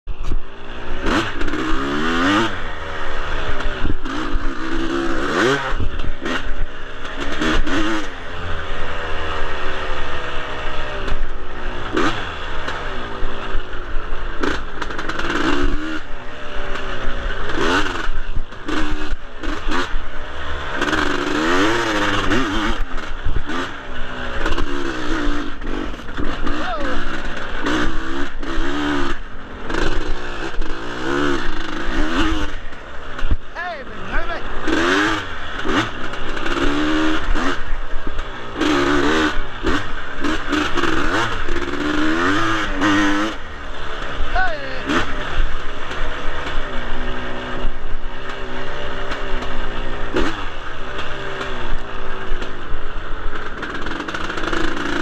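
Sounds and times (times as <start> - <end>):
dirt bike engine revving: 0.1 - 55.0.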